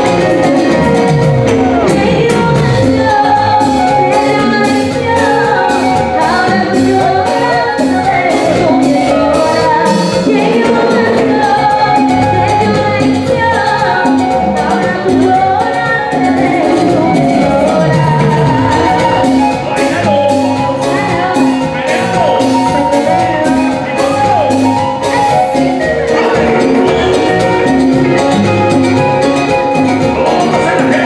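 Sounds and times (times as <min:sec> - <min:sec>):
keyboard: 0:00.0 - 0:31.0
people singing: 0:00.0 - 0:31.0
timbales and congas beat: 0:00.0 - 0:31.0.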